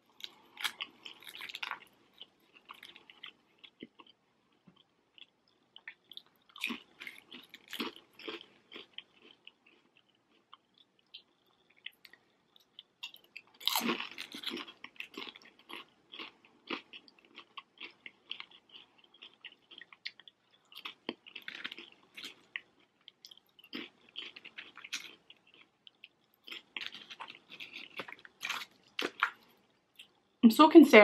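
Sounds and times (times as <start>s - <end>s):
crunching and chewing crispy food: 0.0s - 30.3s.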